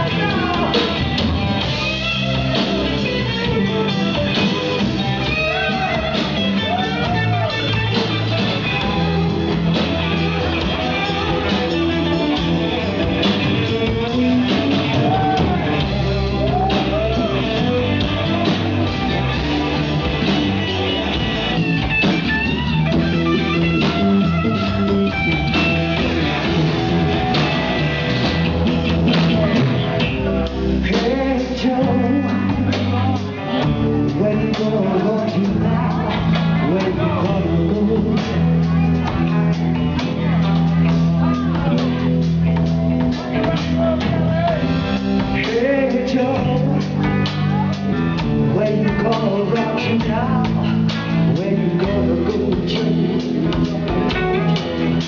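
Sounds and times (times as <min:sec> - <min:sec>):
bass guitar: 0:00.0 - 0:55.0
drum kit: 0:00.0 - 0:55.0
electric guitar bending notes: 0:00.0 - 0:55.0.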